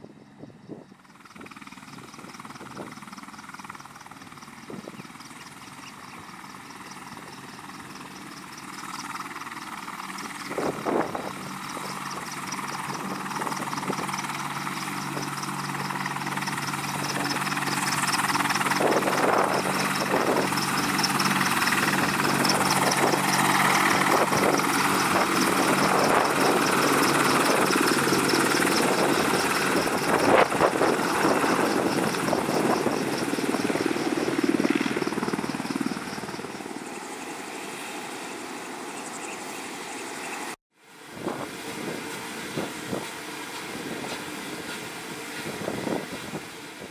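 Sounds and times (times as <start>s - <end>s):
helicopter rotor and engine: 0.0s - 46.9s.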